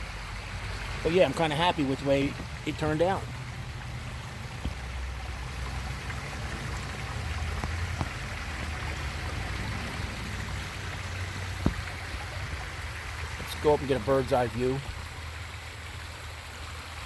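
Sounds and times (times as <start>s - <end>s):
small waterfall trickling: 0.0s - 17.0s.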